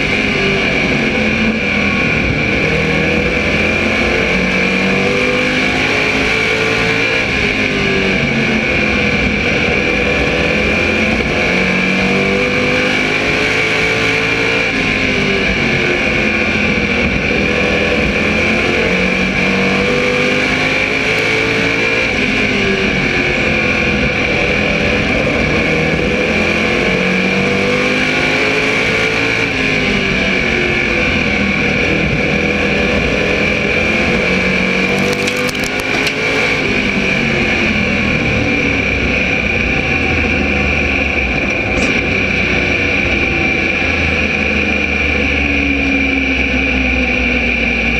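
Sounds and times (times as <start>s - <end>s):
race car engine running hard: 0.0s - 47.9s.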